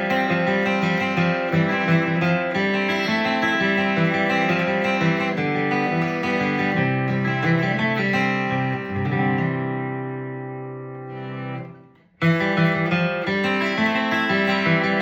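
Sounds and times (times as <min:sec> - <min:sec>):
acoustic guitar flatpicking: 0:00.0 - 0:15.0.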